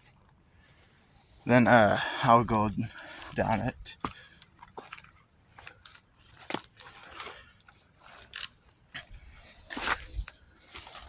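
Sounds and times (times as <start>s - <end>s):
footsteps crunching on dirt: 1.5s - 11.0s.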